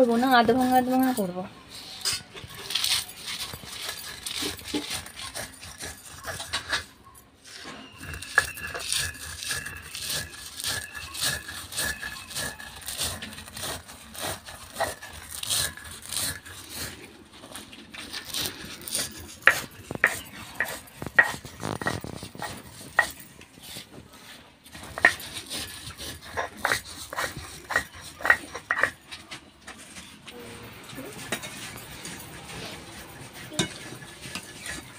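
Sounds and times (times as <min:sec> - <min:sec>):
stone roller scraping on stone: 0:00.0 - 0:34.9.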